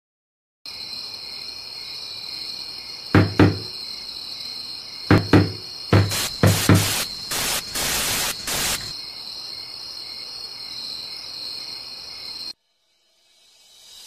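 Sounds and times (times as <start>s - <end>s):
crickets chirring: 0.7s - 14.0s.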